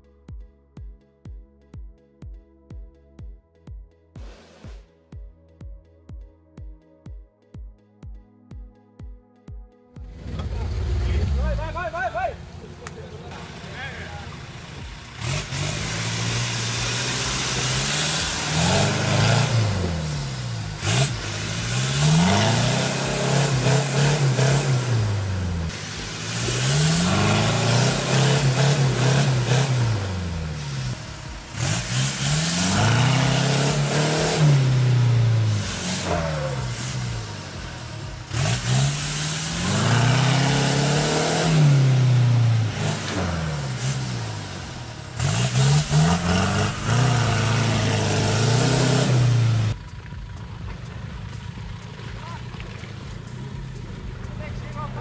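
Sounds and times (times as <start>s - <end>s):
pickup engine revving: 10.0s - 55.0s.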